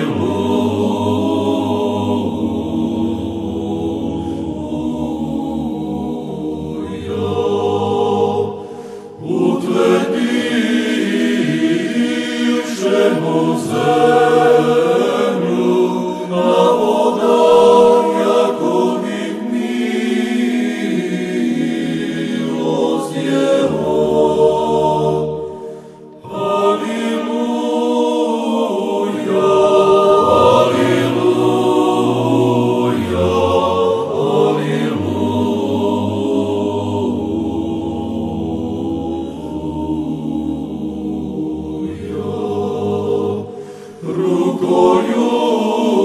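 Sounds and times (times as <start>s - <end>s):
choir singing chant: 0.0s - 46.0s.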